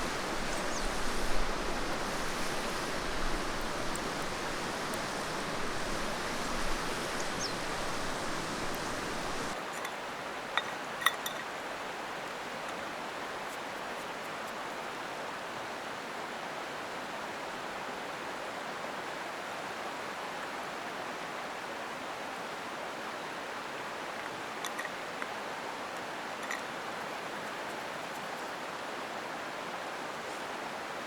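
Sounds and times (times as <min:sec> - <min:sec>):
mountain stream flowing: 0:00.0 - 0:31.0.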